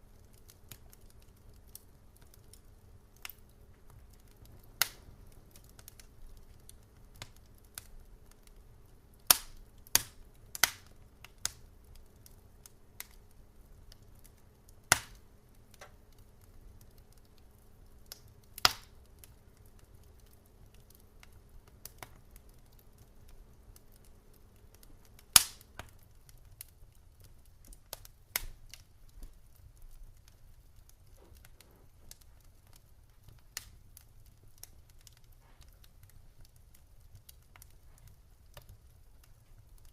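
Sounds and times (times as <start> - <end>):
low hiss: 0.0 - 39.9
wood fire crackling: 0.0 - 39.9.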